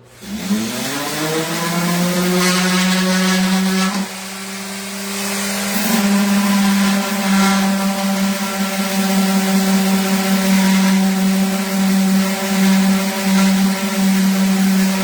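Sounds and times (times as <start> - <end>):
orbital sander on wood: 0.0 - 15.0.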